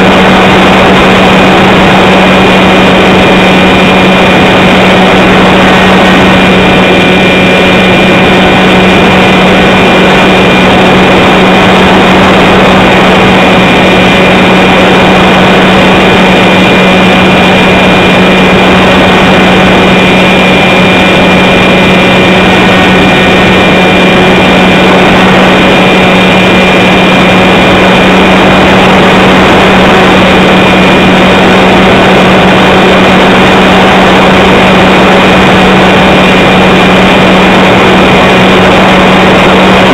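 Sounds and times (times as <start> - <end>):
model aircraft motor whining: 0.0 - 39.9
rushing air: 0.0 - 39.9.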